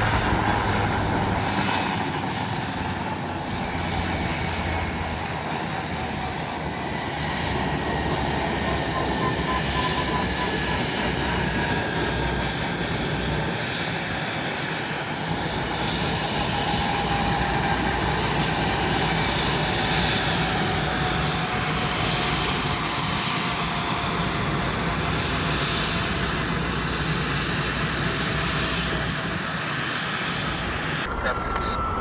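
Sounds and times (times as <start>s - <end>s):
helicopter engines and rotor: 0.0s - 32.0s.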